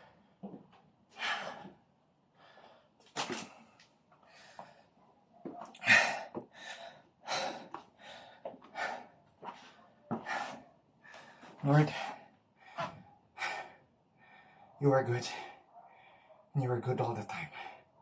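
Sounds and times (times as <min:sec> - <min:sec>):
person breathing hard: 0:01.2 - 0:05.0, 0:05.7 - 0:16.5.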